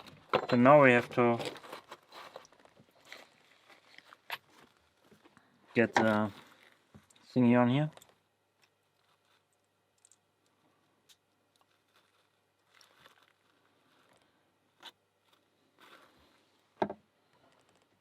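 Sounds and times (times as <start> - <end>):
rubber gloves rustling: 0.0 - 18.0.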